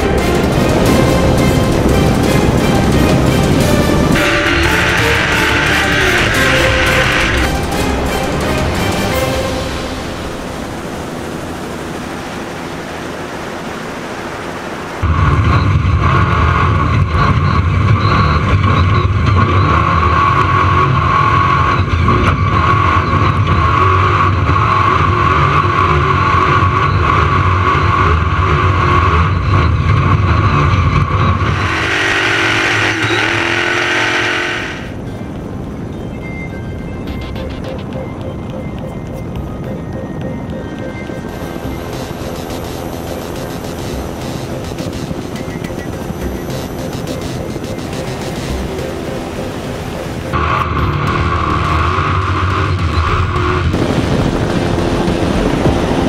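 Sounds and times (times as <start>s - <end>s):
loud truck engine: 0.0s - 35.7s, 37.1s - 56.0s
steady high whine: 0.0s - 56.0s.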